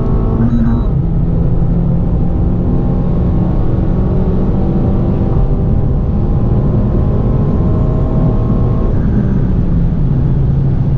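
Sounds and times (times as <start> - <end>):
car engine accelerating: 0.0 - 10.9
road and wind rumble: 0.0 - 10.9.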